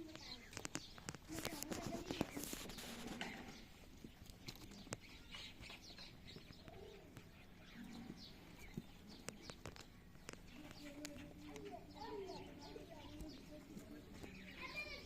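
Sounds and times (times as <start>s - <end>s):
faint clicks: 0.0s - 3.4s, 4.0s - 14.5s
bird chirps: 0.0s - 15.0s.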